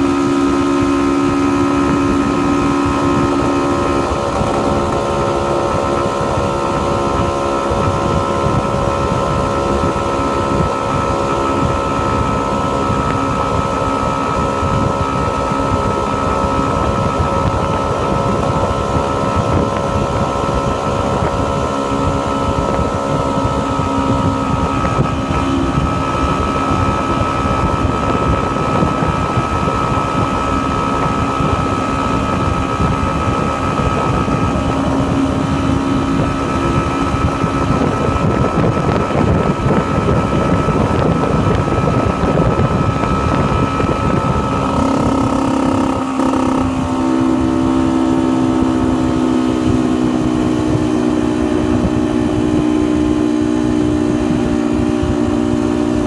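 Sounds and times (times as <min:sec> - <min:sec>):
two-stroke motorcycle engine cruising: 0:00.0 - 0:56.0
wind buffeting microphone: 0:00.0 - 0:56.0.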